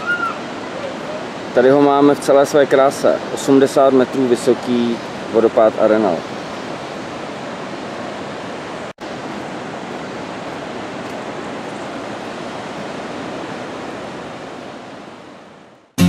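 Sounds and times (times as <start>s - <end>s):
waterfall roaring: 0.0s - 15.9s.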